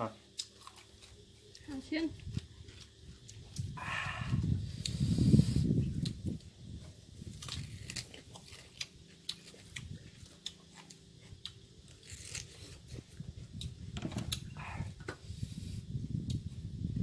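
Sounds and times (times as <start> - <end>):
person chewing and crunching: 0.3 - 15.0.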